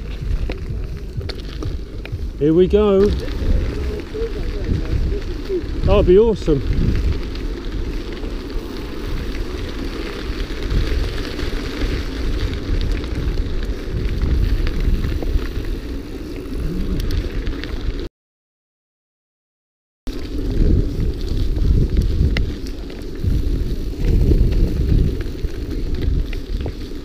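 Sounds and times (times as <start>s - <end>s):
bike tyres rolling on dirt: 0.0s - 18.1s, 20.1s - 27.0s
wind buffeting microphone: 0.0s - 18.1s, 20.1s - 27.0s.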